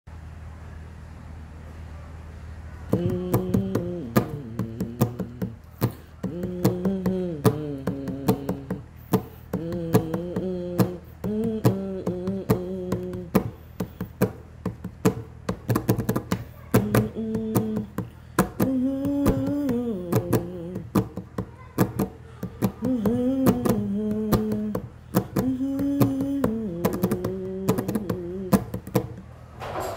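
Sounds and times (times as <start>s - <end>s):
person humming a melody: 2.9s - 29.2s
sharp taps keeping beat: 2.9s - 29.2s.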